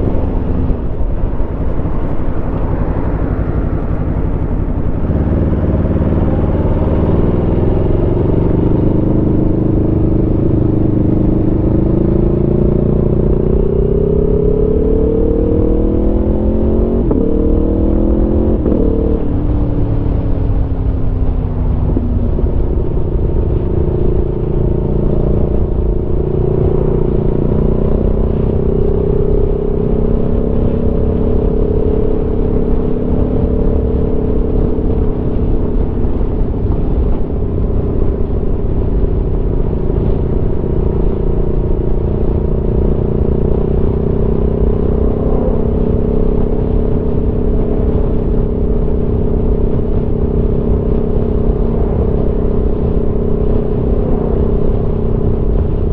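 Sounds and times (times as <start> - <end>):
low wind rumble: 0.0 - 55.9
motorcycle engine cruising: 0.0 - 55.9.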